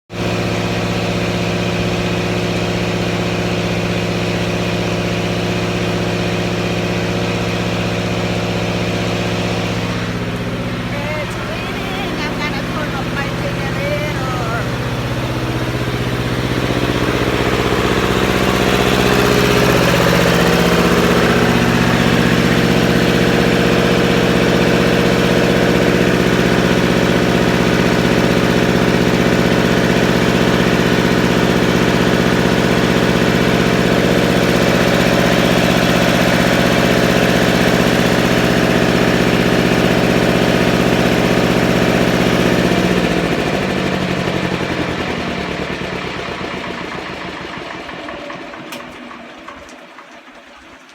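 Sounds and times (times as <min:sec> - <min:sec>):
generator engine running: 0:00.1 - 0:50.9.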